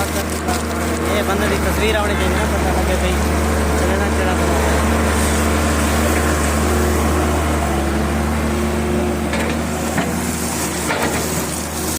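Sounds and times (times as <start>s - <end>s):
motor humming: 0.0s - 11.9s.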